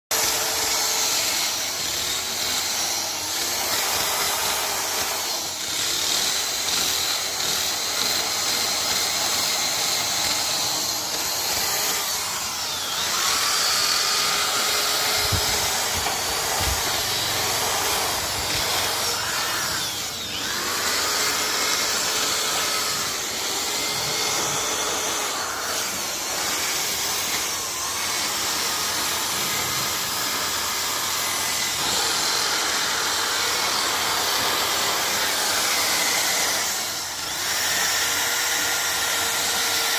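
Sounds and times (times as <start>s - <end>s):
woodworking machine cutting wood: 0.1s - 39.9s.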